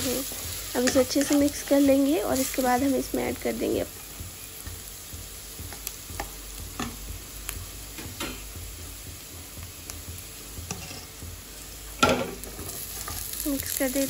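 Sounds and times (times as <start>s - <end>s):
onion masala sizzling in oil: 0.0s - 14.0s.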